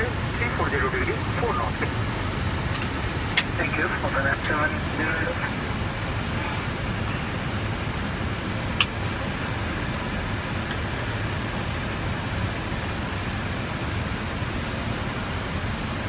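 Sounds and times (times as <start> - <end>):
airplane cockpit rushing noise: 0.0 - 16.0.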